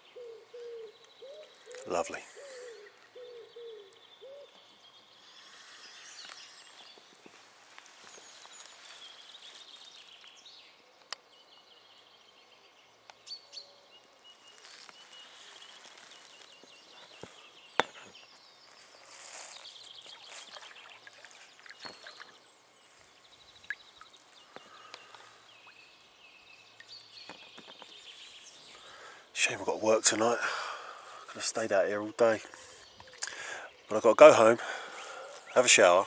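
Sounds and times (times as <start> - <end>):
small birds chirping and trilling: 0.0 - 36.0.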